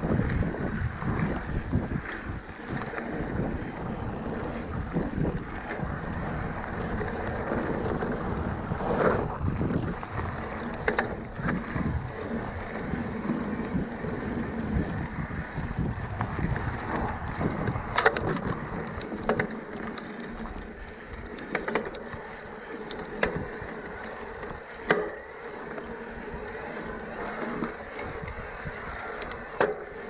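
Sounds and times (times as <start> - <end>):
tyres rumbling on gravel: 0.0 - 30.0
wind rushing over microphone: 0.0 - 30.0
bike frame rattling: 3.8 - 30.0.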